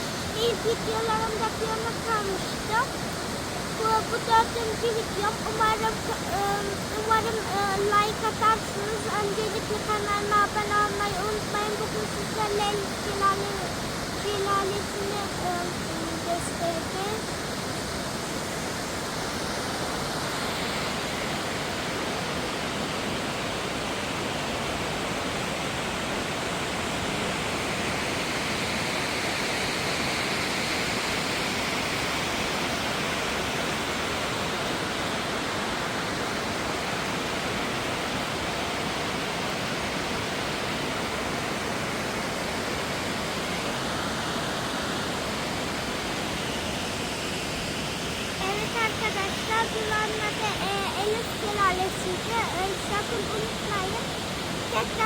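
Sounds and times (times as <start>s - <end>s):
waterfall crashing: 0.0s - 55.0s.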